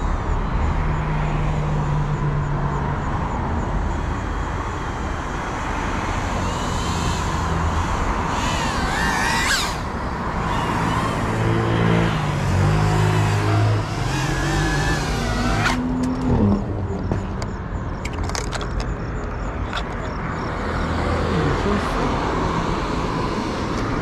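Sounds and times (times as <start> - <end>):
low rumble of road traffic: 0.0 - 24.0
drone motors whining: 3.8 - 24.0.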